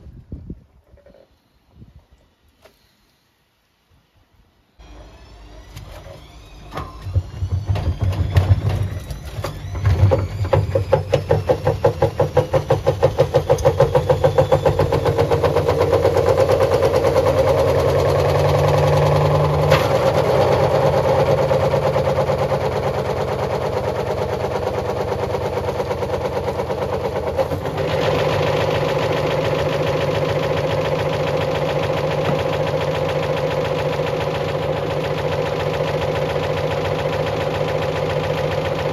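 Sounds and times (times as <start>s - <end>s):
washing machine drum spinning: 5.4s - 38.9s.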